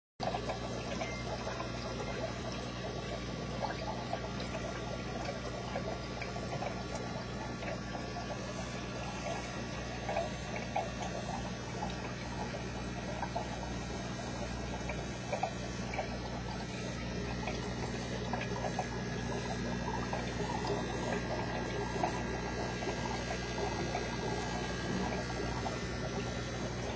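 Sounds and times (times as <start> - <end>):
pump humming: 0.2 - 26.9
water trickling into tank: 0.2 - 26.9.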